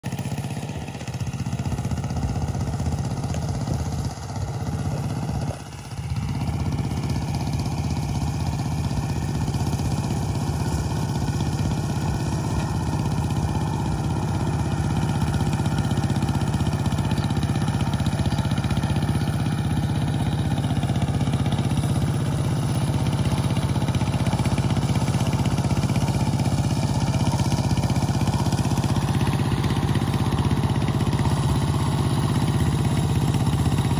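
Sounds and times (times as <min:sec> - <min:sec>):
small single-cylinder engine running: 0:00.0 - 0:33.9.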